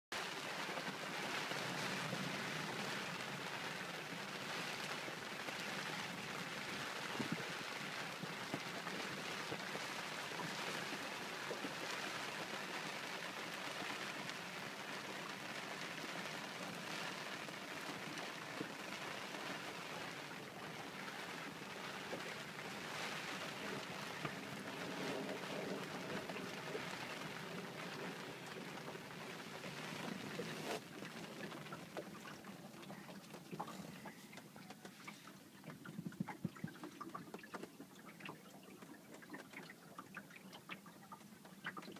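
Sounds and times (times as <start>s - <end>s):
rain on a boat deck and water: 0.1s - 41.9s.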